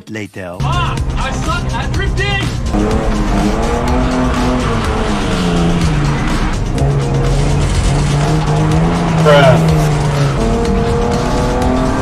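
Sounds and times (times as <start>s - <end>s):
music: 0.0s - 12.0s
car engine revving: 0.8s - 12.0s.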